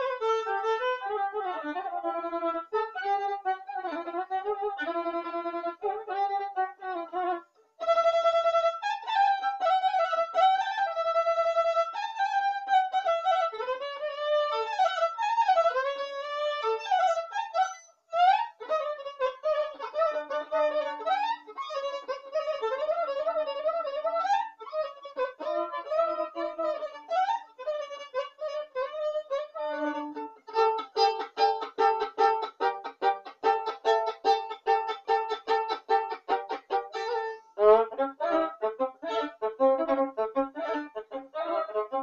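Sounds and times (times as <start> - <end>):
fast violin dance melody: 0.0 - 42.0.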